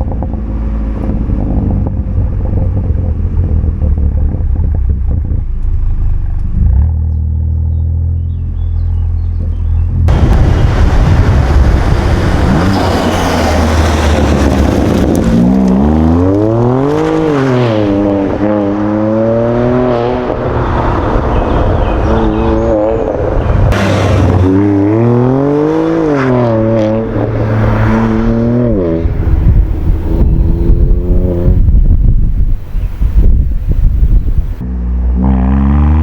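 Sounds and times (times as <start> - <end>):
loud car engine through exhaust: 0.0 - 36.0.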